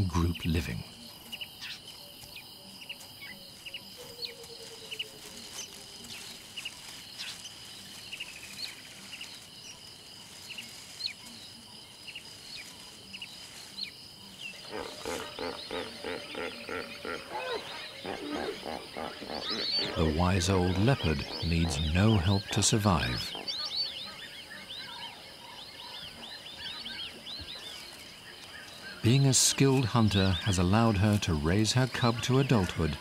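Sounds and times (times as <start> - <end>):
bird chirps: 0.0 - 33.0
rhythmic series of calls: 0.0 - 33.0.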